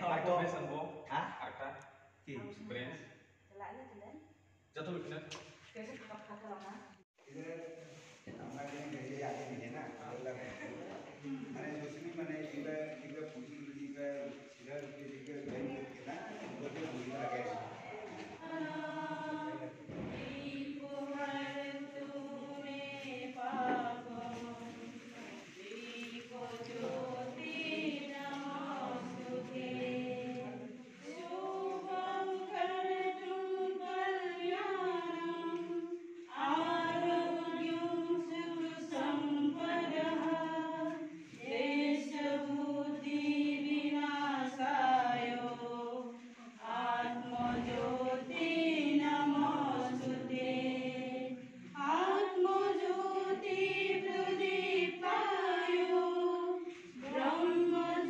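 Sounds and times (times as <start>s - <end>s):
group singing a hymn: 7.9s - 58.0s.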